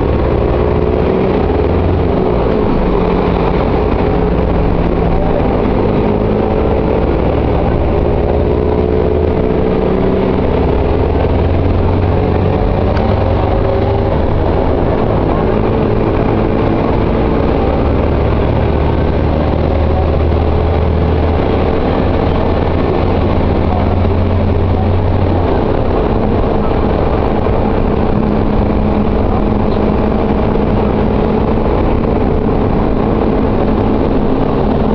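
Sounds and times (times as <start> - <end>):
bus engine deep hum: 0.0 - 34.9.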